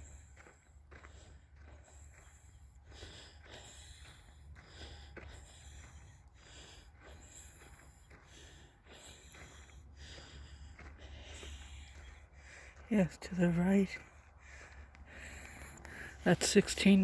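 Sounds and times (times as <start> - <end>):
person breathing: 0.0 - 12.9, 14.0 - 16.8.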